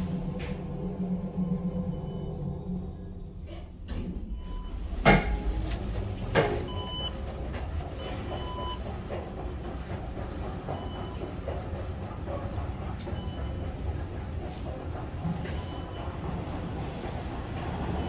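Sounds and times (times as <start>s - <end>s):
low rumble of station hall: 0.0s - 18.0s.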